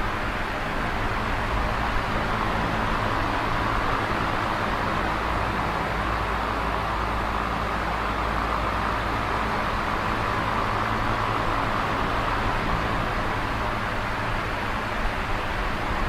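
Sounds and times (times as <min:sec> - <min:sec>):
fan air rushing: 0:00.0 - 0:16.0.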